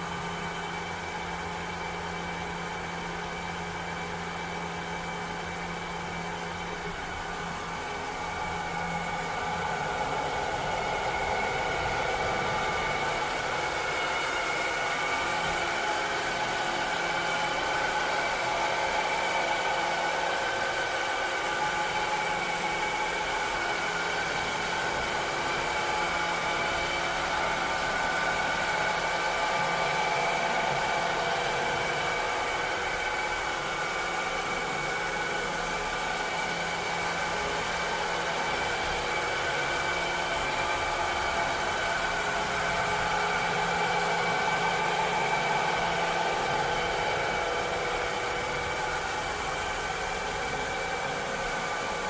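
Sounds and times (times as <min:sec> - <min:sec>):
steady whining tones: 0:00.0 - 0:52.0.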